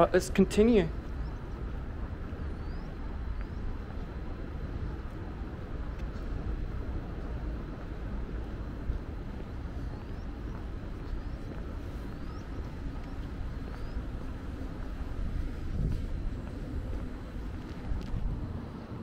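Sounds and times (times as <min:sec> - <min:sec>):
low city rumble: 0:00.0 - 0:19.0.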